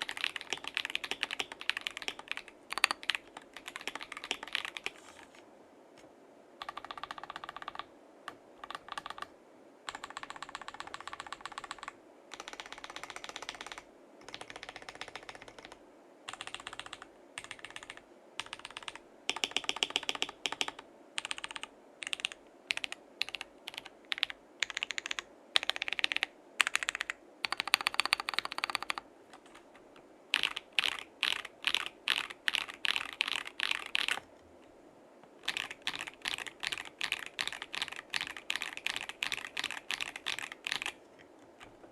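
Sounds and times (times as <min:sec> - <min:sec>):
mechanical keyboard typing: 0:00.0 - 0:05.2, 0:06.6 - 0:09.3, 0:09.9 - 0:34.2, 0:35.4 - 0:41.0.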